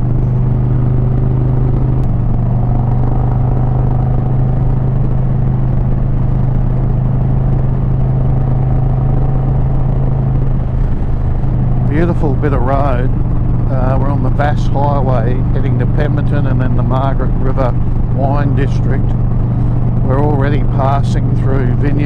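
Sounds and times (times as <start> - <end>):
motorcycle engine running: 0.0 - 22.0
road noise: 0.0 - 22.0
wind: 0.0 - 22.0.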